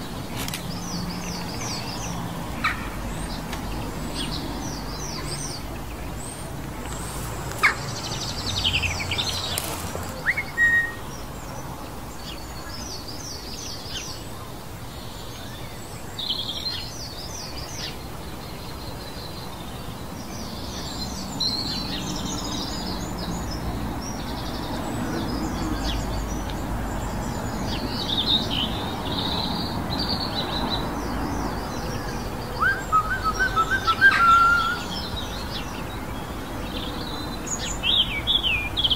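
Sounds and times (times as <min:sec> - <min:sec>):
birds chirping and singing: 0:00.0 - 0:11.6, 0:15.0 - 0:38.9.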